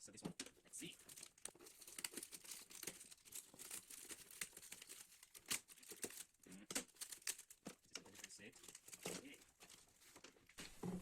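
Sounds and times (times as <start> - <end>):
packaging crinkling and tearing: 0.8 - 10.8.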